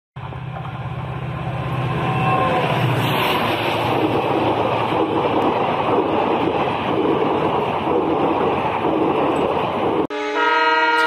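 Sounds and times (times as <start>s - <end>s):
locomotive engine rumble: 0.2s - 10.1s
wheel and rail noise: 0.2s - 10.1s.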